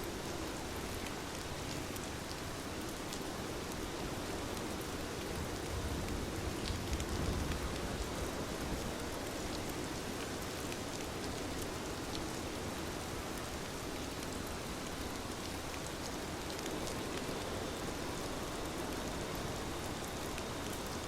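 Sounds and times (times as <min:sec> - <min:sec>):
heavy rain falling: 0:03.6 - 0:21.0.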